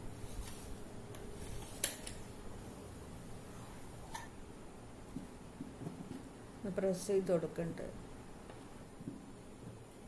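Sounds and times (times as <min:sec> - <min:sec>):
electric fan hum: 0:00.0 - 0:10.0.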